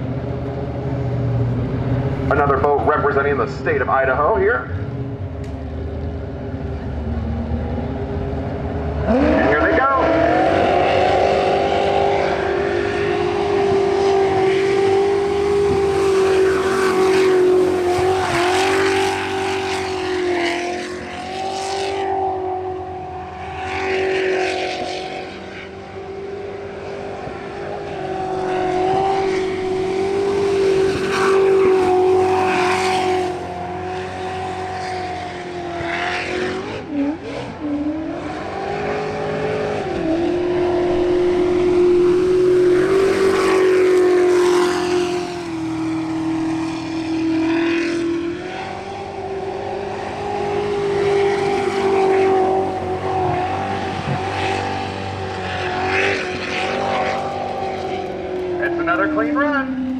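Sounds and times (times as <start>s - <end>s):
jet boat engine at high revs: 0.0s - 59.9s.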